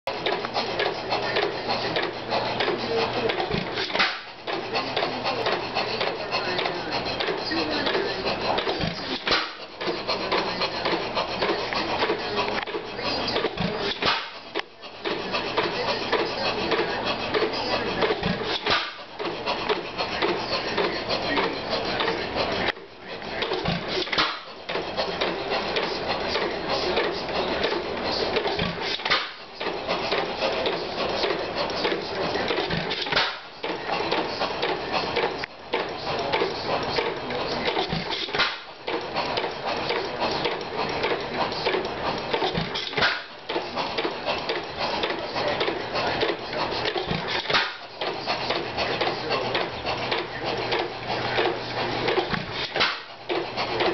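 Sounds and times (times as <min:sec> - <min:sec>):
gas engine clattering: 0:00.1 - 0:53.9.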